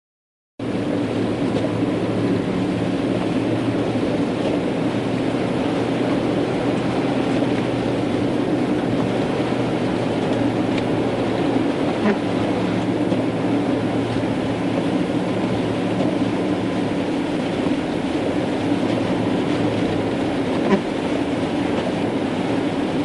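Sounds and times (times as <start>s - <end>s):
car cabin engine and road noise: 0.6s - 23.0s.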